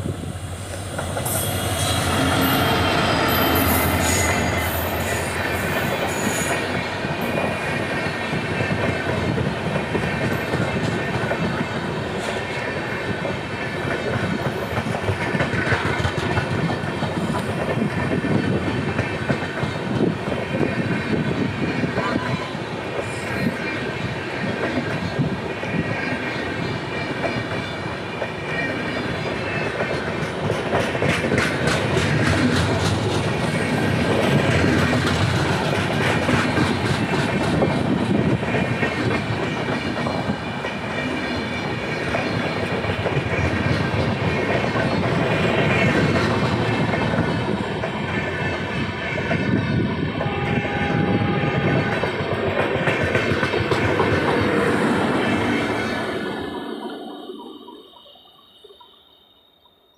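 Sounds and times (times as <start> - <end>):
train wheels rumbling on rail: 0.0 - 58.2
clickety-clack over rail joints: 0.6 - 56.6.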